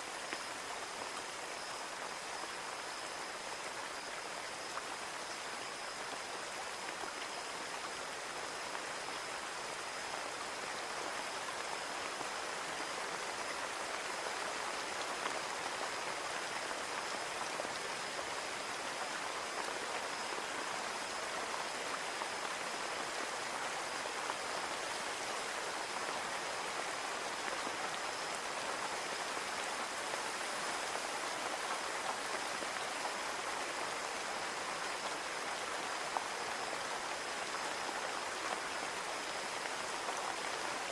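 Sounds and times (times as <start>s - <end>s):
rain pattering on a window: 0.1s - 40.9s.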